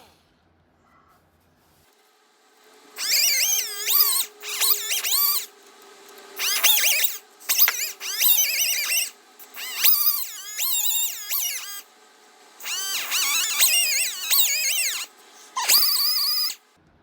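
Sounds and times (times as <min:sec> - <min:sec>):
die grinder whining: 0:02.1 - 0:16.8.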